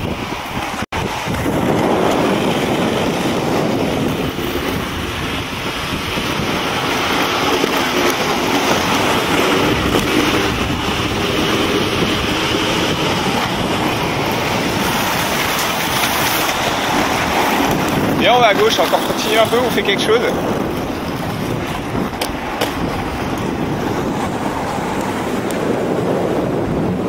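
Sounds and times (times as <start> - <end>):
skate wheels rolling on asphalt: 0.0 - 27.0
wind buffeting microphone: 0.0 - 27.0.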